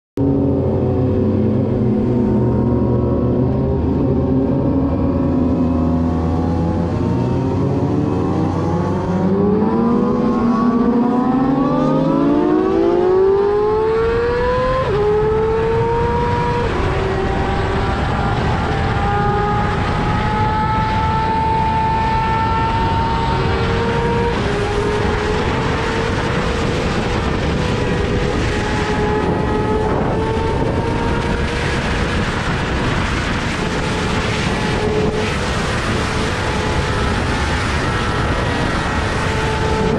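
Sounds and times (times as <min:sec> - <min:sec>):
motorcycle engine revving: 0:00.2 - 0:39.9
wind rush: 0:00.2 - 0:39.9.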